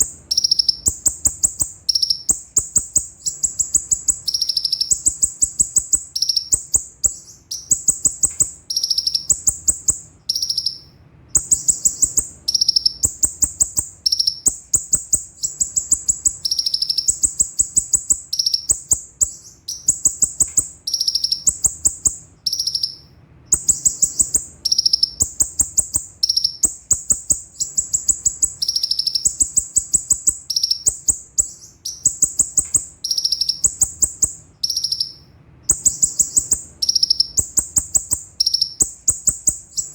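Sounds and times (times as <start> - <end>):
sunbird singing rolling trills: 0.0 - 39.9.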